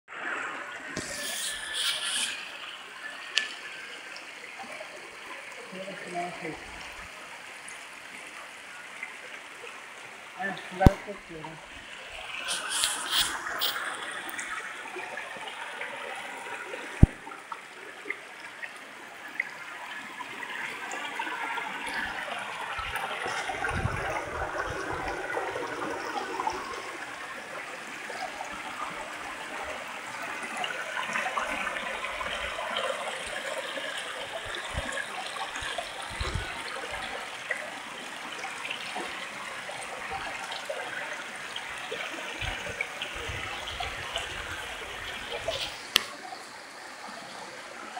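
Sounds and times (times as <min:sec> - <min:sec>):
stream trickling over rocks: 0:00.1 - 0:47.9.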